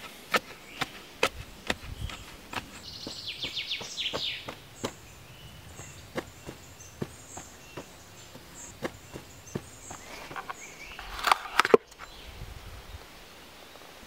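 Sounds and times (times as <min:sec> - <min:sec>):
wooden pole tamping earth: 0:00.0 - 0:11.9.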